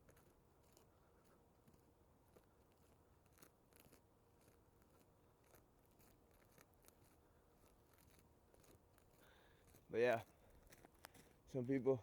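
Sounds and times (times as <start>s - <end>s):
faint crunching clicks: 0.0s - 11.4s.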